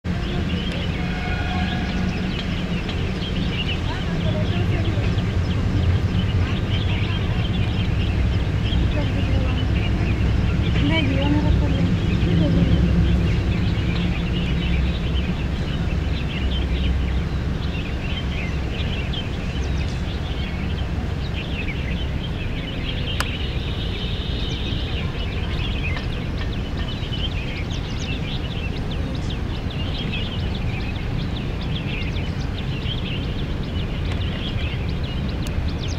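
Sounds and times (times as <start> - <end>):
small birds chirping: 0.0 - 35.9
steady low rumble: 0.0 - 35.9.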